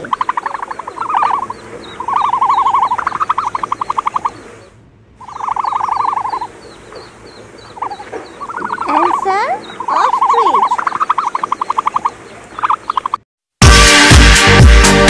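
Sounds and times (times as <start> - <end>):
trilling animal calls: 0.0 - 13.2.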